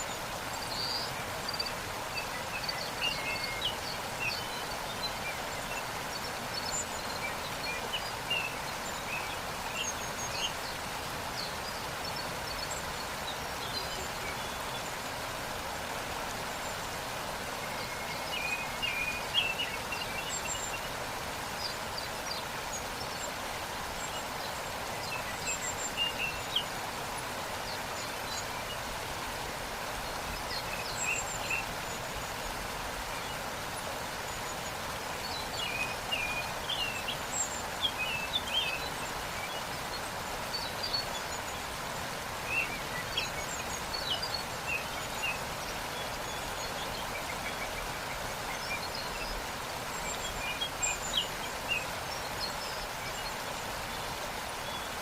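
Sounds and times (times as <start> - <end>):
small birds chirping: 0.0 - 55.0
waterfall rushing: 0.0 - 55.0.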